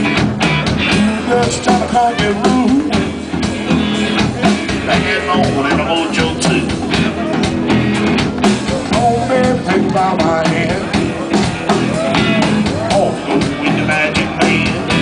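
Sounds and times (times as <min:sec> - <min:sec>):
drum kit: 0:00.0 - 0:15.0
electric guitars: 0:00.0 - 0:15.0
gliding guitar lead line: 0:00.0 - 0:15.0.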